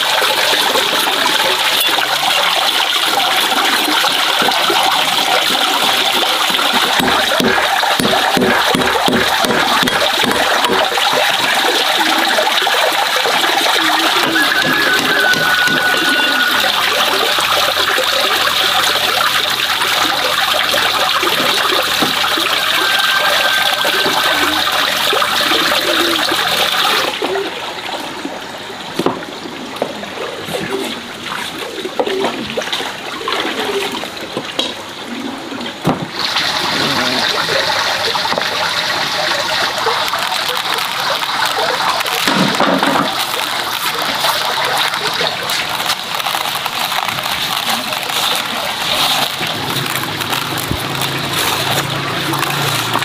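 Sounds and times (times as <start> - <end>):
water splashing and trickling: 0.0 - 53.0.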